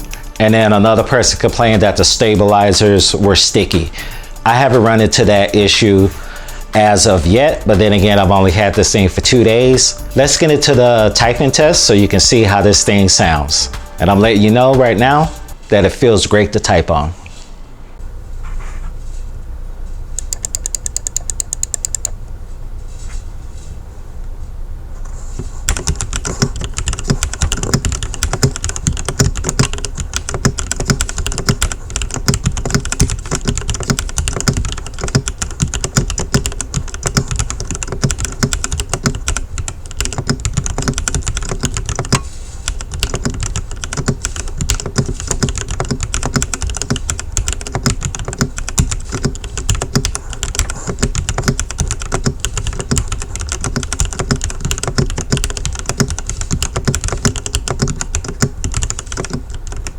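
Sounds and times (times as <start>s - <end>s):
mechanical keyboard typing: 0.0s - 15.6s, 20.2s - 22.2s, 25.4s - 59.9s.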